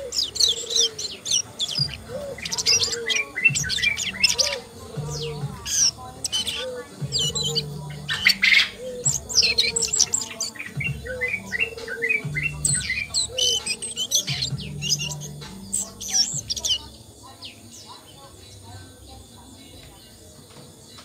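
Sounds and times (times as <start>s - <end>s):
bird singing high chirps and trills: 0.0s - 21.0s.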